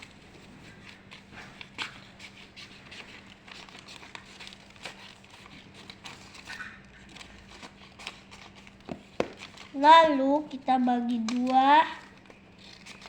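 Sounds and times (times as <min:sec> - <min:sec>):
paper rustling and cutting: 0:00.0 - 0:13.0.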